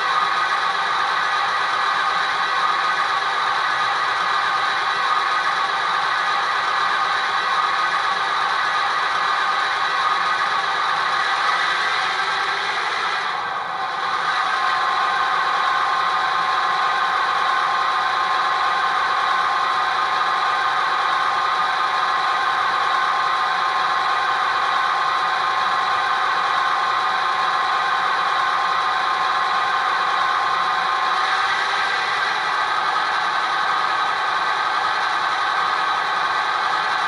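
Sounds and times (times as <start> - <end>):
diesel locomotive engine through small speaker: 0.0 - 37.0.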